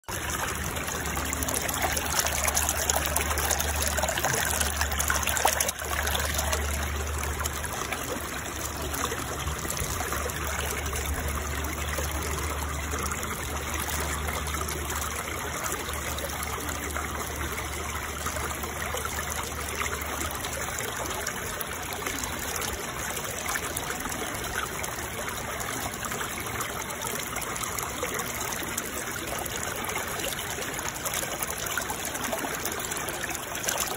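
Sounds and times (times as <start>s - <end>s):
trickling water: 0.0s - 33.9s.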